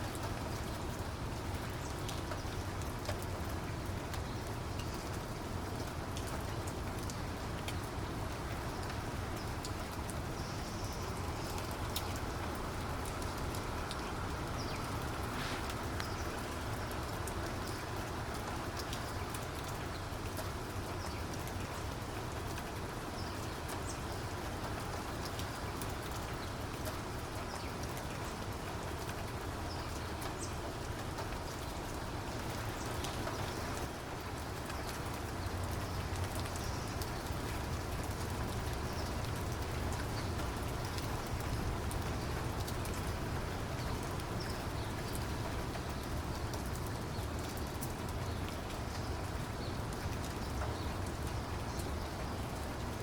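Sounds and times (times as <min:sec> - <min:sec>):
steady rain hiss: 0:00.0 - 0:53.0
raindrops tapping: 0:00.1 - 0:53.0.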